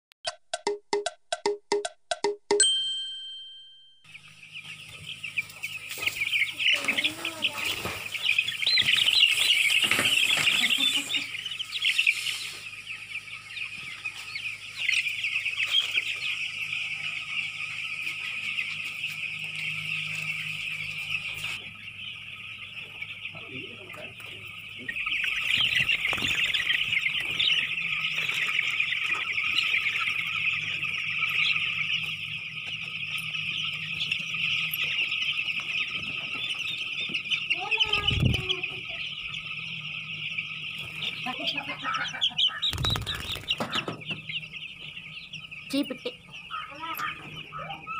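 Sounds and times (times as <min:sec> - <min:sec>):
chicks peeping: 0:04.1 - 0:47.9.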